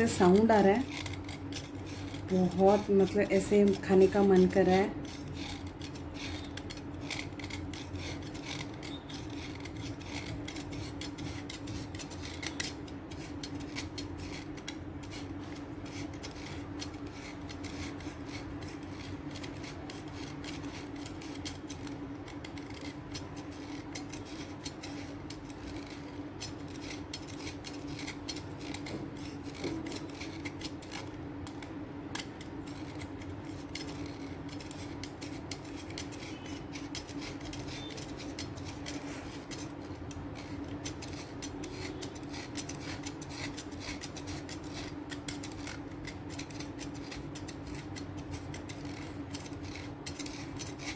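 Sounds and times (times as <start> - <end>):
blade scraping and crunching chalk: 0.0 - 50.9
low steady hum: 0.0 - 50.9.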